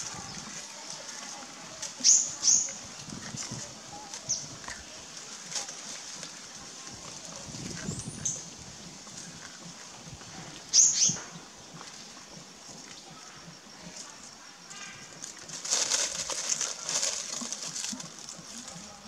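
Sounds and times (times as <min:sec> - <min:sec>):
dry leaves rustling: 0:00.0 - 0:19.0.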